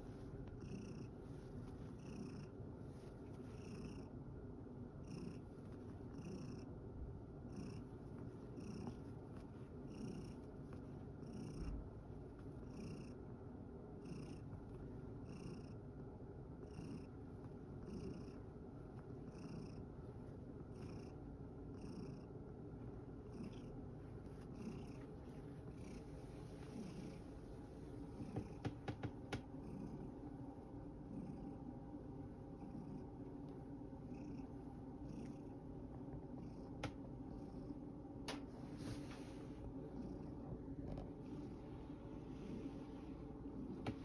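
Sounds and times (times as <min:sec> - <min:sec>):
cat purring: 0:00.0 - 0:04.2, 0:04.8 - 0:44.0.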